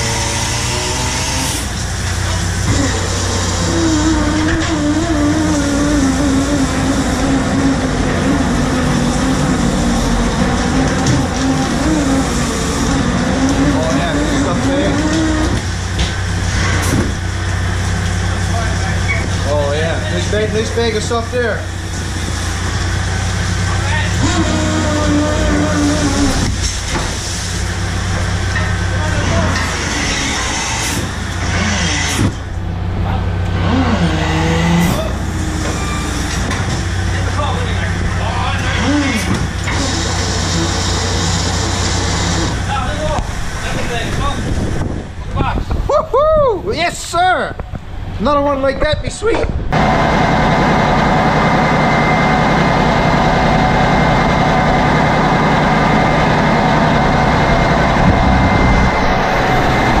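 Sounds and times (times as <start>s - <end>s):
deck machinery wavering tones: 0.0s - 46.1s, 49.7s - 60.0s
diesel engine drone: 0.0s - 46.4s, 49.5s - 60.0s.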